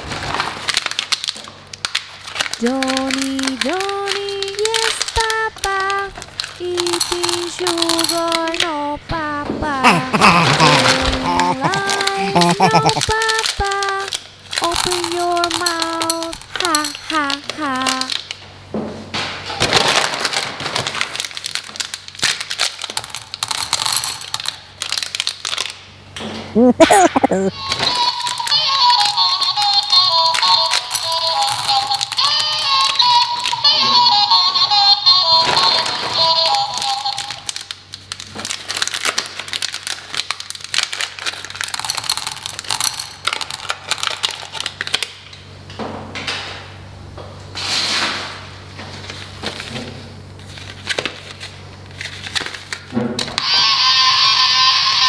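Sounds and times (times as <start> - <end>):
foil wrapper crinkling: 0.0 - 8.9, 9.8 - 18.4, 19.6 - 25.8, 27.7 - 34.4, 35.1 - 45.2, 49.0 - 52.9.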